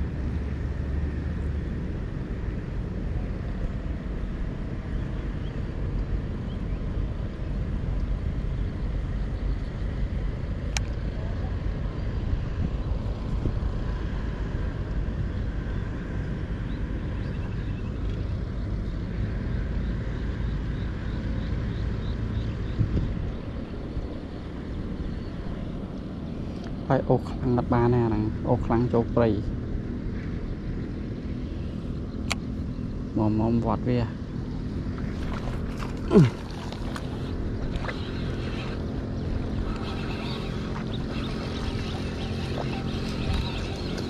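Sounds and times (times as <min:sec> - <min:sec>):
wind rumbling on microphone: 0:00.0 - 0:44.0.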